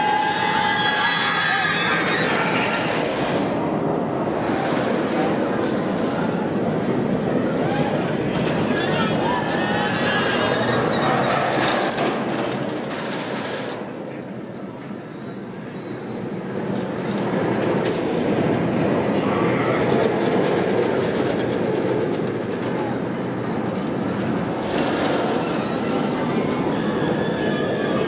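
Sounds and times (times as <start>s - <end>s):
roller coaster rolling on track: 0.0s - 28.0s.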